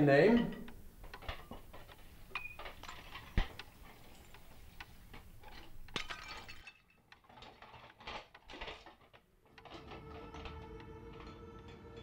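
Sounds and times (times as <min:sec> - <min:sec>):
faint irregular clicks and clinks: 0:00.0 - 0:12.0.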